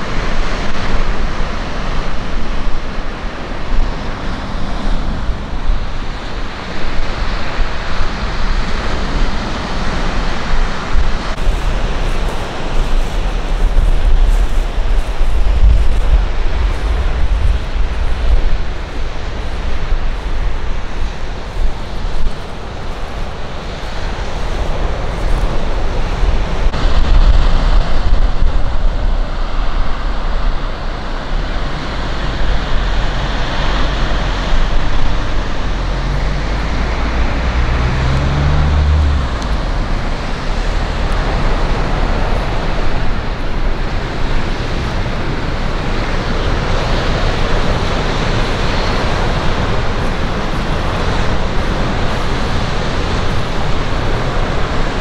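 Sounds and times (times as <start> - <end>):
steady rushing noise: 0.0 - 55.0
wind buffeting microphone: 0.0 - 55.0.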